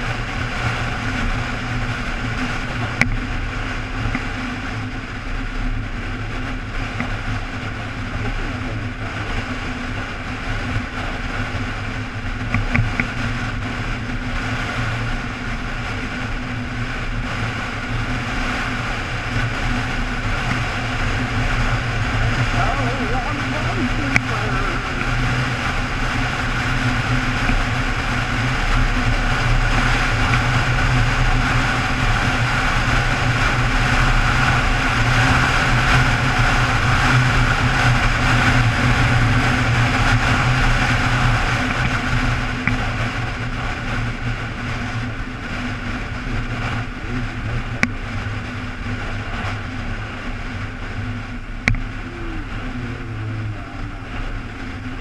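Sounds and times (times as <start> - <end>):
motorcycle engine cruising: 0.0 - 55.0
wind rushing past microphone: 0.0 - 55.0.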